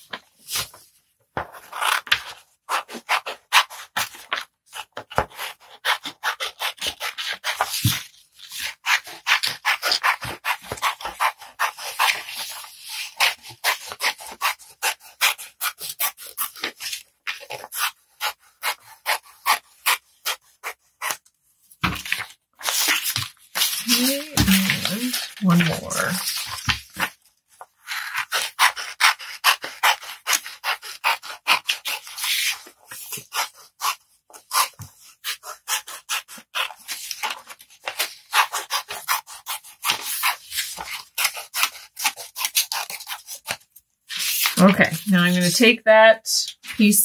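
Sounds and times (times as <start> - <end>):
paper rustling: 0.0 - 15.4, 16.0 - 45.6
scissors snipping paper: 1.4 - 27.2, 27.8 - 45.6.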